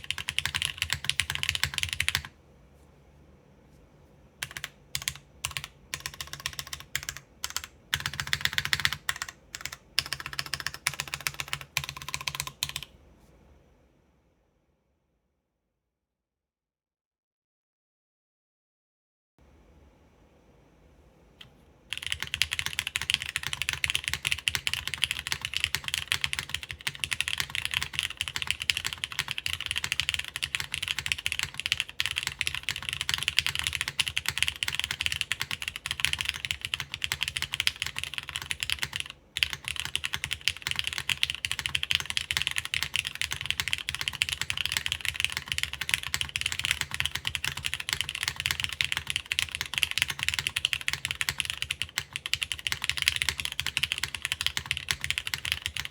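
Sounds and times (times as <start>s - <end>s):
fast mechanical keyboard typing: 0.0s - 2.3s, 4.4s - 12.9s, 21.9s - 55.9s.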